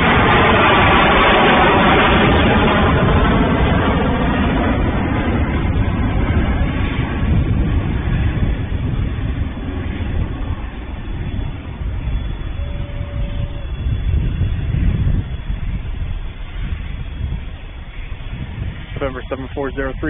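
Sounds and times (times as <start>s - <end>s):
aircraft engines at takeoff: 0.0s - 20.0s.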